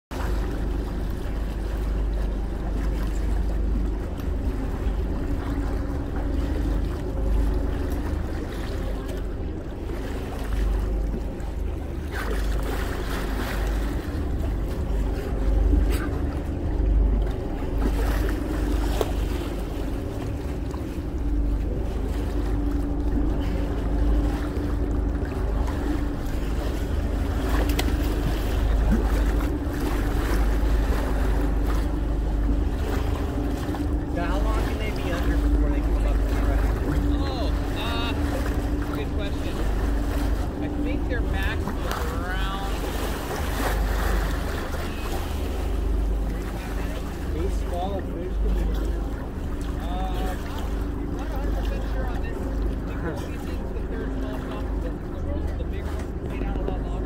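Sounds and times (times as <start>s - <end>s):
water rushing at boat bow: 0.0s - 57.0s
steady low hum: 0.1s - 57.0s.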